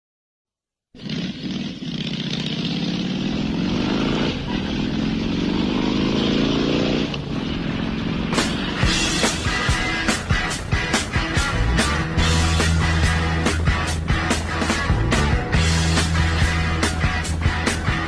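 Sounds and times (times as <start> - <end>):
motorcycle engine accelerating: 1.0 - 18.0.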